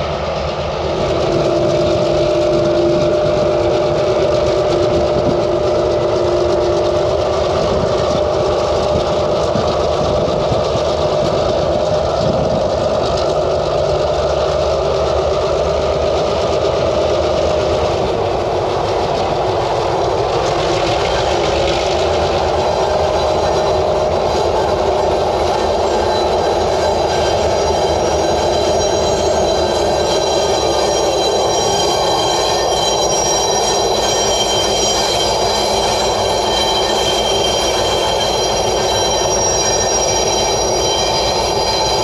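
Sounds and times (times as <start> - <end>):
constant whine: 0.0 - 42.0
locomotive engine rumble: 0.0 - 42.0.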